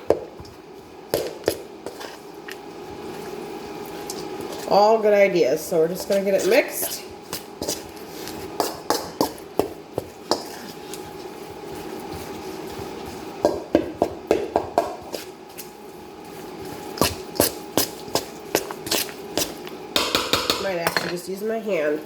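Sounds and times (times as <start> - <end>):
spoon stirring batter in a bowl: 0.0 - 20.8.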